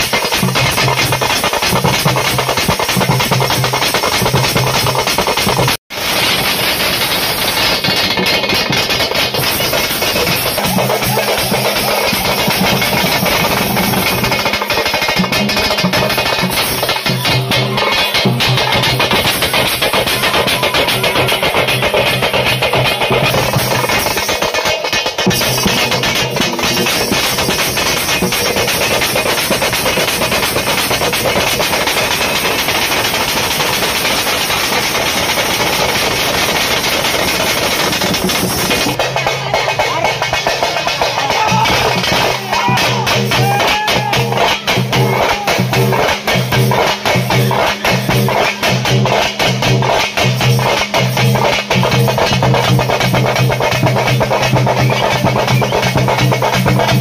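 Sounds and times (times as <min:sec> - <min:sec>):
bass drum: 0:00.0 - 0:06.2, 0:07.0 - 0:24.4, 0:25.1 - 0:34.2, 0:34.8 - 0:57.0
hand cymbals clashing: 0:00.0 - 0:57.0
side drums beaten with sticks: 0:00.0 - 0:57.0.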